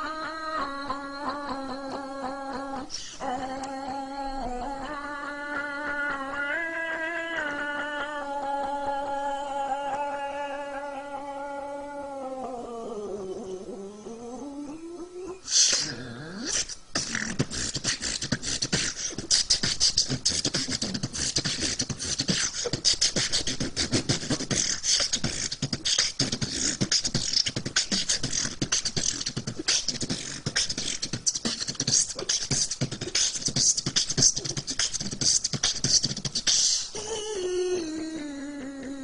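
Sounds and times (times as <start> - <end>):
beatboxing: 0.0 - 39.0.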